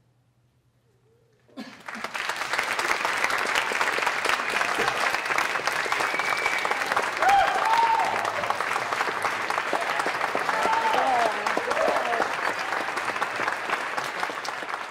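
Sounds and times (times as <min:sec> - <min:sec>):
audience applauding: 0:01.6 - 0:14.9.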